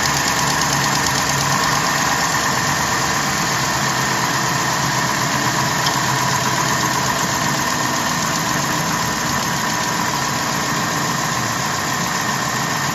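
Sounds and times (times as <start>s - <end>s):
car engine idling: 0.0s - 12.9s
engine ticking: 0.0s - 12.9s.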